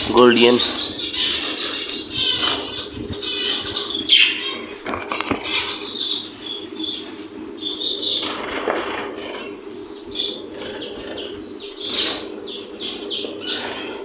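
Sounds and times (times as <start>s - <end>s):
birds fluttering wings: 0.0s - 14.0s.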